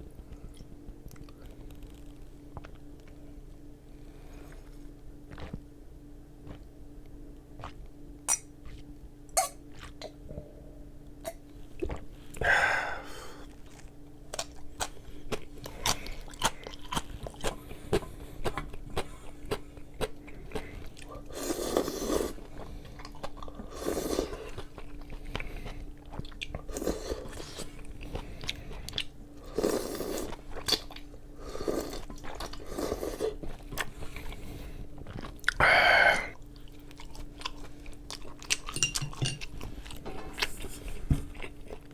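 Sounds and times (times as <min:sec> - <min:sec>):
person chewing with crunches: 0:04.3 - 0:05.7, 0:06.4 - 0:10.2, 0:13.2 - 0:41.9.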